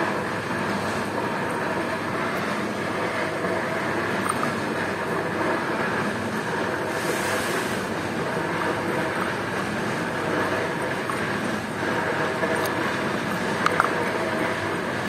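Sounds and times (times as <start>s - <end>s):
loud mechanical rumble: 0.0s - 15.0s.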